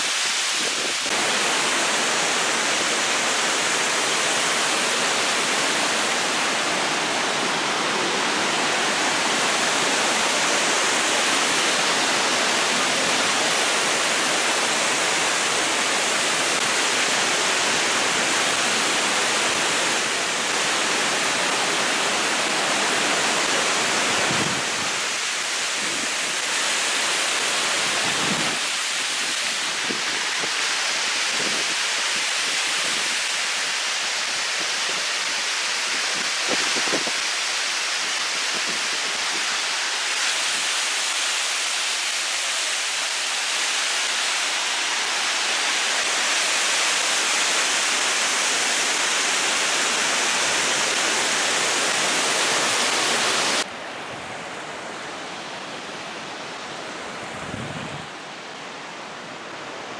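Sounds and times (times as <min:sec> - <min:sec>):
waterfall splashing: 0:00.0 - 0:59.9.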